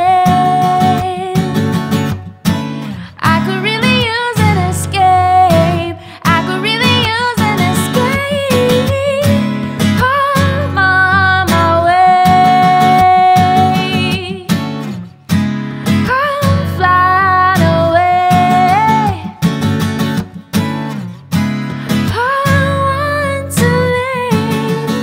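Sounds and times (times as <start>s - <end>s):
woman singing: 0.0s - 15.0s, 15.8s - 20.3s, 21.9s - 25.0s
strummed acoustic guitar: 0.0s - 25.0s.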